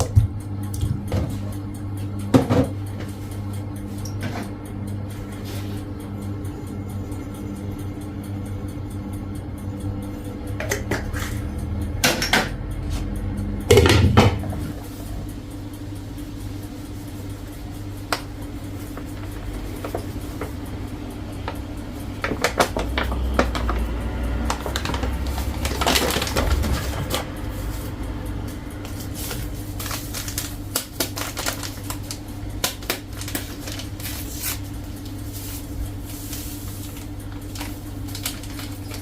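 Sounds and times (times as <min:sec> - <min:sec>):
appliance hum: 0:00.0 - 0:39.0.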